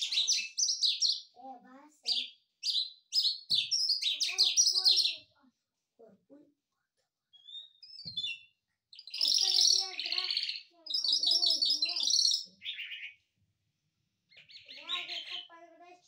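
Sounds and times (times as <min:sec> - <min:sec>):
small songbird chirping: 0:00.0 - 0:05.4, 0:07.3 - 0:13.4, 0:14.3 - 0:15.6.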